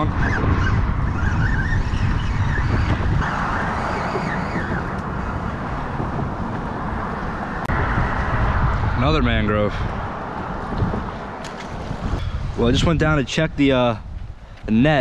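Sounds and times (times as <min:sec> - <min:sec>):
road traffic passing: 0:00.0 - 0:15.0
wind on microphone: 0:00.0 - 0:15.0.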